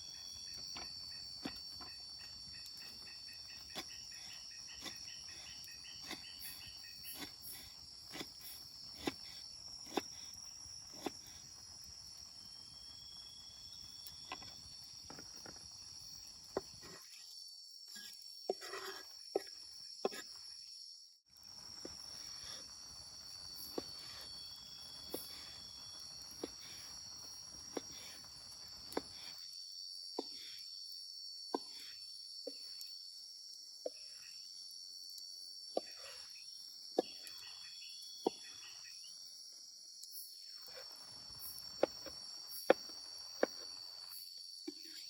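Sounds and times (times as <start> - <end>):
crickets droning: 0.0 - 45.0.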